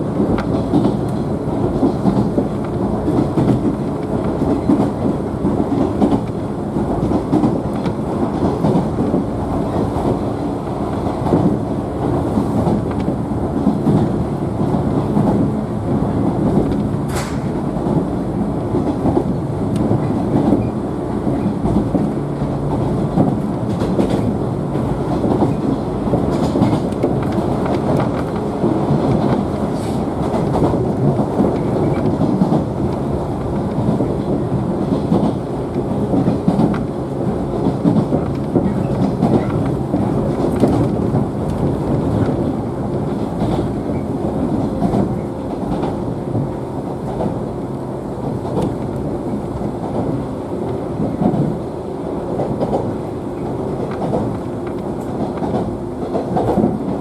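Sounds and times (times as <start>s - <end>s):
rail joint clicks: 0.0s - 57.0s
train wheels rumbling on rails: 0.0s - 57.0s.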